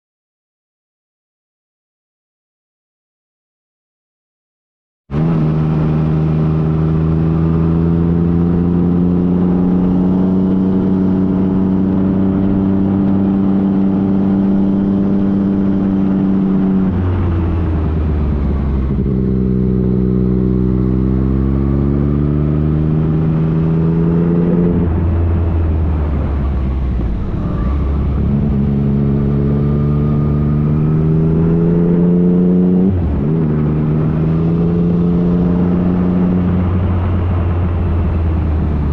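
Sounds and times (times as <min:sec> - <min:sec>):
motorcycle engine accelerating: 0:05.1 - 0:38.9.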